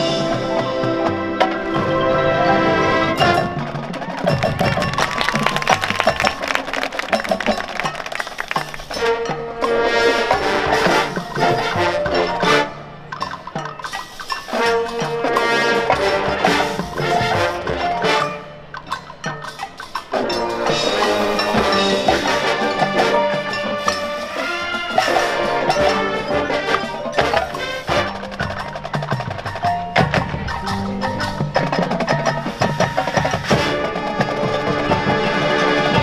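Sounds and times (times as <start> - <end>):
marching band playing: 0.0 - 36.0
sharp percussion strikes: 0.0 - 36.0.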